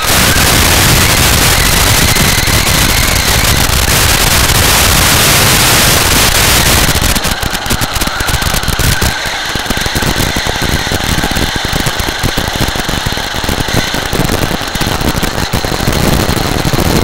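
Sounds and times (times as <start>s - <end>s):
crackling static: 0.0s - 17.0s.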